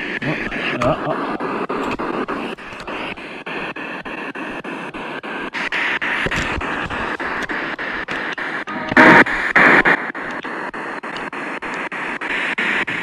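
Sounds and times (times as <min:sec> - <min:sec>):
choppy radio static: 0:00.0 - 0:13.0.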